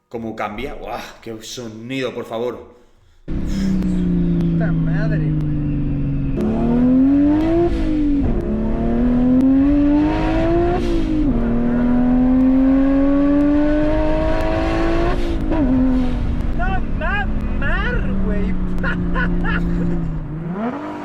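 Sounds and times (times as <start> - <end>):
car engine accelerating: 3.3 - 21.0.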